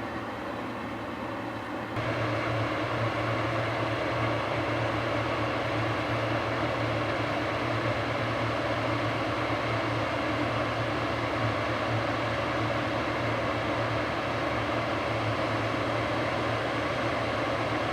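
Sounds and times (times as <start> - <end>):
diesel machinery engine hum: 0.0 - 17.9.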